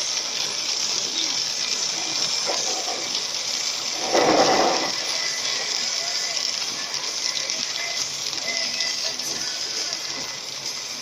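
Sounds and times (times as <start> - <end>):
heavy rain hiss: 0.0 - 11.0.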